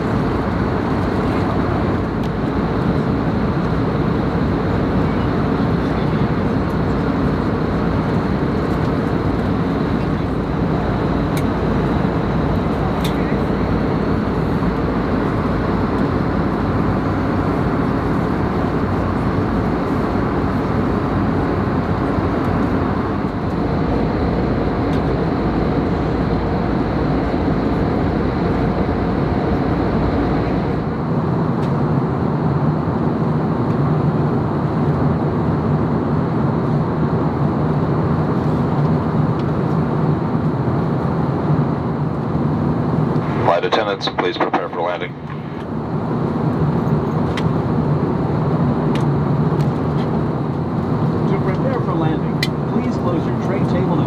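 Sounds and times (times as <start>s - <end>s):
mid-low hum: 0.0s - 31.7s, 40.5s - 54.0s
airplane cabin roar: 0.0s - 54.0s.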